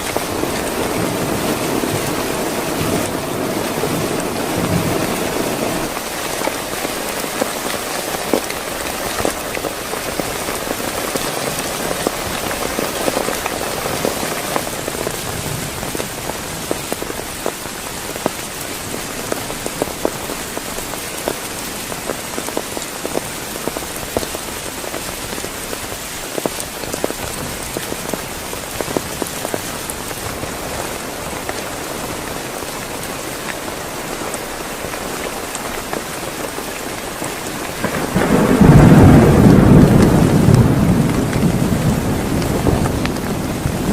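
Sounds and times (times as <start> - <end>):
heavy rain: 0.0 - 43.9
raindrops hitting surface: 0.0 - 43.9.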